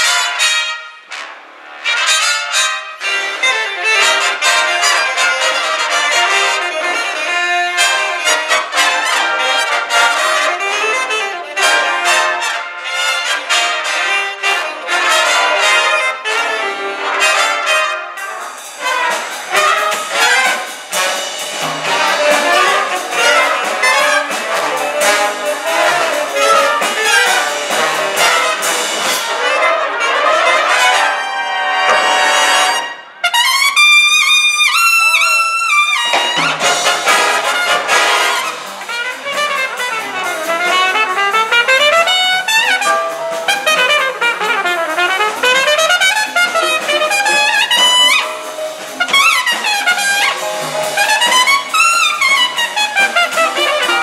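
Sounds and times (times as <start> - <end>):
big band jazz: 0.0 - 54.0
trumpet solo: 0.0 - 54.0
drum accents: 3.0 - 31.2, 34.7 - 54.0.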